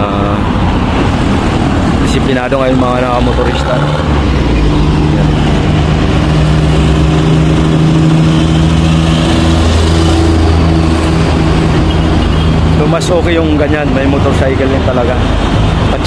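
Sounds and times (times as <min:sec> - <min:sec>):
heavy diesel vehicles droning: 0:00.0 - 0:16.0
road traffic: 0:00.0 - 0:16.0.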